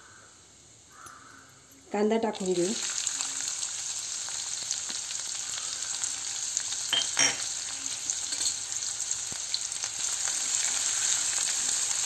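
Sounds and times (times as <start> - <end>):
onions sizzling in hot oil: 2.0 - 12.0.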